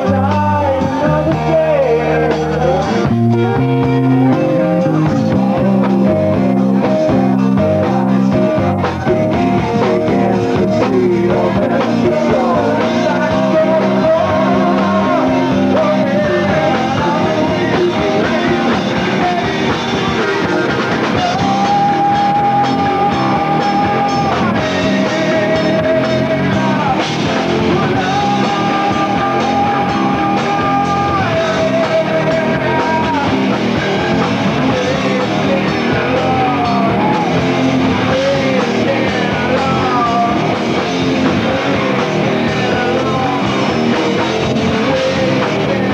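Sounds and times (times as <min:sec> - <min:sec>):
rock band playing live: 0:00.0 - 0:45.9
sliding guitar lead line: 0:00.0 - 0:45.9.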